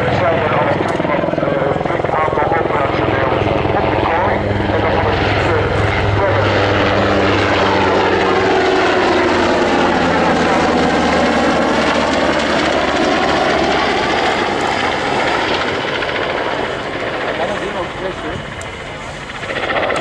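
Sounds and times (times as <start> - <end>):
helicopter flying low overhead: 0.0 - 20.0
whoosh of passing helicopter: 0.0 - 20.0.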